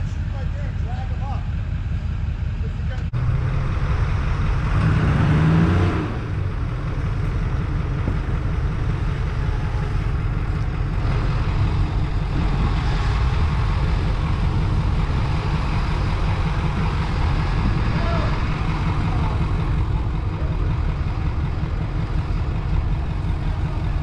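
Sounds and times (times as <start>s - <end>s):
pickup truck engine running: 0.0s - 24.0s.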